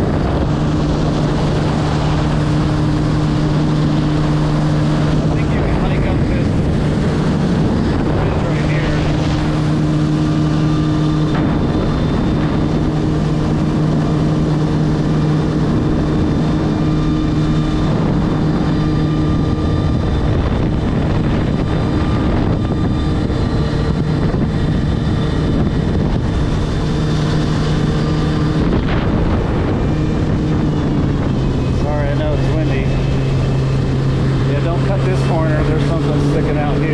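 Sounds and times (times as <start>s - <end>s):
jet ski engine humming: 0.0s - 36.9s.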